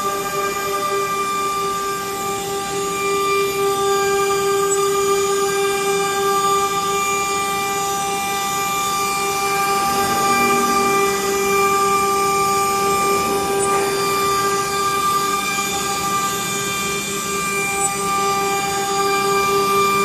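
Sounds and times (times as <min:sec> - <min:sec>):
router spindle whining: 0:00.0 - 0:20.0.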